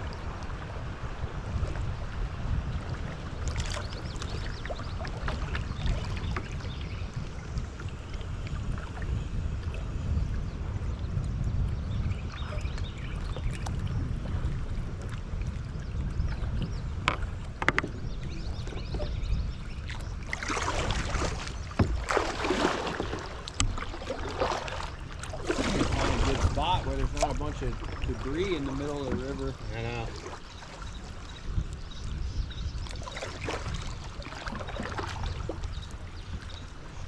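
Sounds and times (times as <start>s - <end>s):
water splashing and trickling: 0.0s - 37.0s
wind rumble on microphone: 0.0s - 37.0s.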